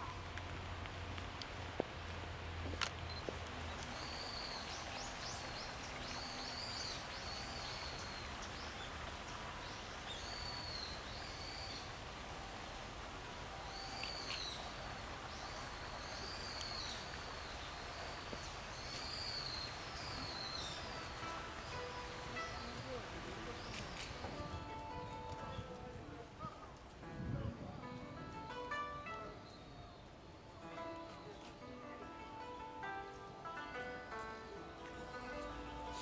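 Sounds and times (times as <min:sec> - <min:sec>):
rain falling on pond: 0:00.0 - 0:27.0, 0:28.3 - 0:36.0.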